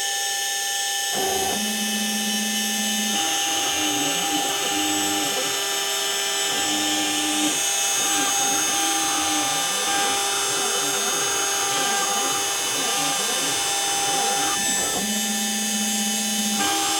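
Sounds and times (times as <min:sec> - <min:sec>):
spindle high whine: 0:01.0 - 0:16.9
stepper motors humming: 0:01.2 - 0:16.9.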